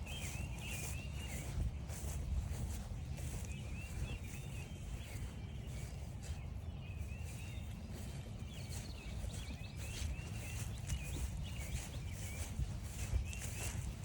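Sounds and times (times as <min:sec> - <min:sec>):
footsteps crunching on frosty grass: 0:00.0 - 0:14.0
songbirds twittering and singing: 0:00.0 - 0:14.0.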